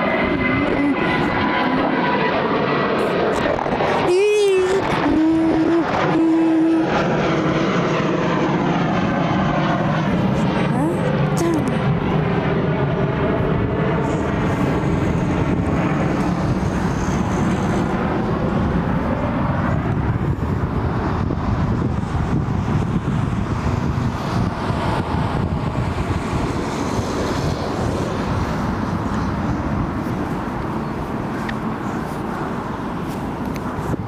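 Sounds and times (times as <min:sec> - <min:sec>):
jet airliner engines roaring: 0:00.0 - 0:34.0.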